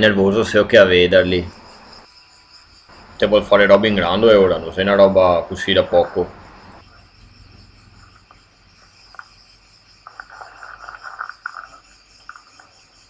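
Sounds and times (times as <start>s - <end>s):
faint high-pitched chirring: 0.0s - 13.0s.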